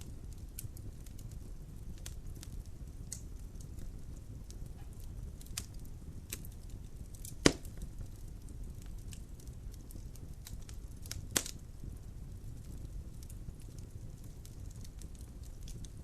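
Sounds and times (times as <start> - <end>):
wood logs burning and crackling: 0.0 - 16.0.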